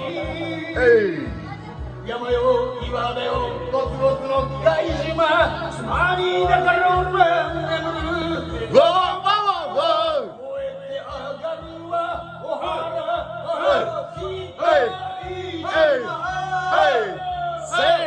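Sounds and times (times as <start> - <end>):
man singing karaoke: 0.0 - 1.4, 2.0 - 18.0
backing track with steady beat: 0.0 - 18.0.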